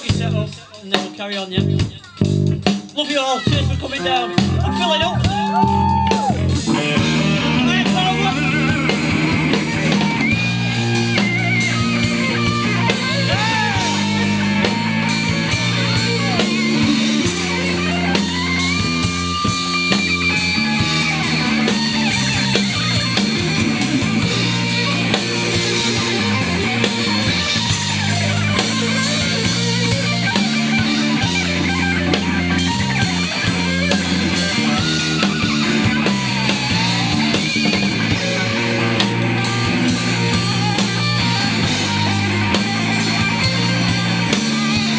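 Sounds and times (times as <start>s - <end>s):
electric guitar bent notes: 0.0s - 44.9s
live rock band playing: 0.0s - 44.9s.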